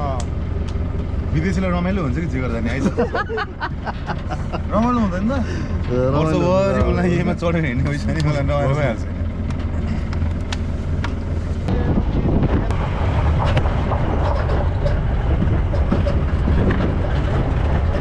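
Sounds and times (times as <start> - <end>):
rattles inside vehicle: 0.0 - 18.0
road noise: 0.0 - 18.0
vehicle engine rumble: 0.0 - 18.0.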